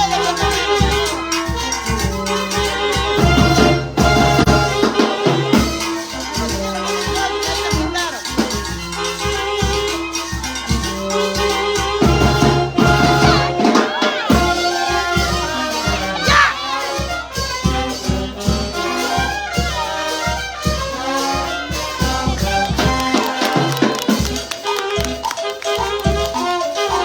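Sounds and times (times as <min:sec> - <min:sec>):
brass band playing: 0:00.0 - 0:27.0
crowd noise: 0:00.0 - 0:27.0
steady drum beat: 0:00.0 - 0:27.0.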